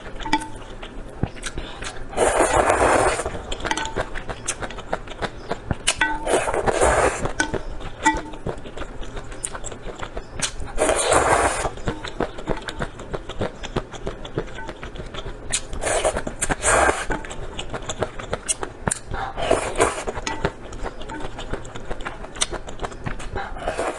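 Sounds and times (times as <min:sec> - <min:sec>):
wet chewing clicks: 0:00.0 - 0:23.9.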